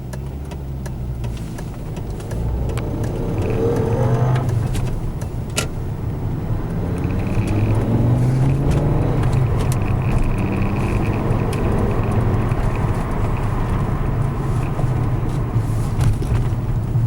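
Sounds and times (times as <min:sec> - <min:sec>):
high gearbox whine: 0:00.0 - 0:16.6
car engine revving: 0:00.0 - 0:17.0.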